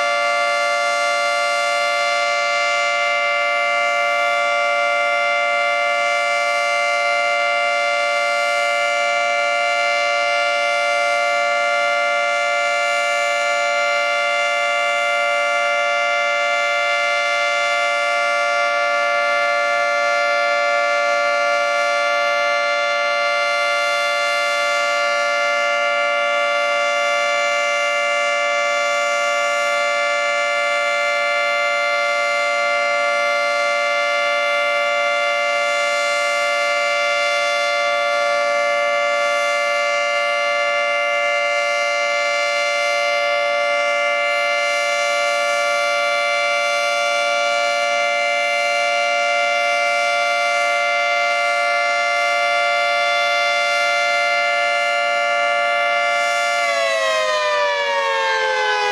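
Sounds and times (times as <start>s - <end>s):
two-tone warning siren: 0.0s - 58.9s.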